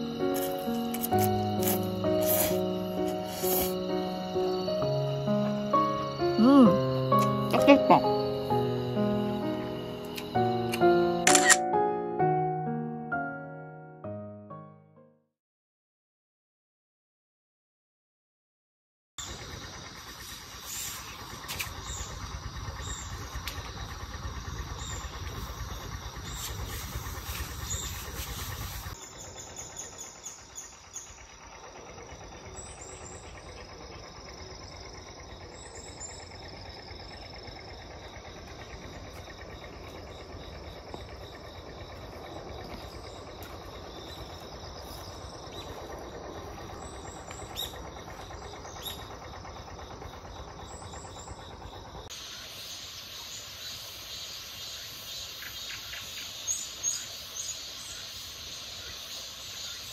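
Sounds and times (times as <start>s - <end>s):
insects buzzing: 0.0s - 11.6s, 19.2s - 59.9s.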